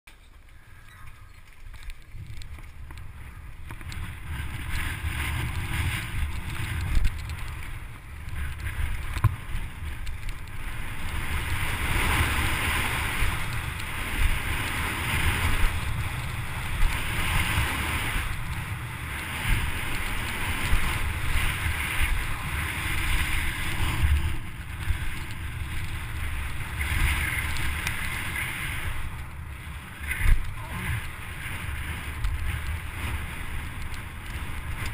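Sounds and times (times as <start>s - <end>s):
mountain bike rumble and rattle: 0.1s - 34.9s
wind buffeting microphone: 0.2s - 34.9s.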